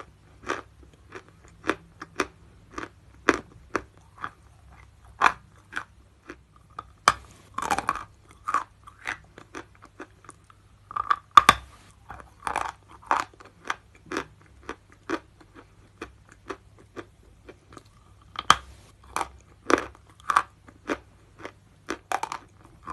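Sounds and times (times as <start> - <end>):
chewing chalk crunches: 0.0 - 22.9.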